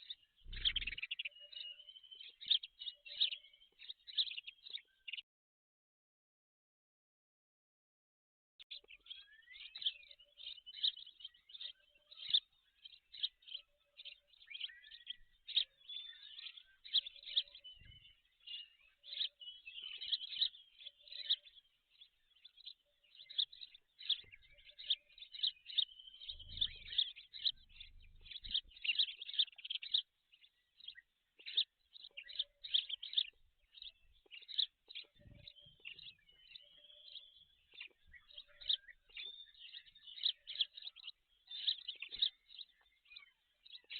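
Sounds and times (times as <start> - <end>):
dense rapid bird chirping: 0.0 - 5.2, 8.7 - 43.9.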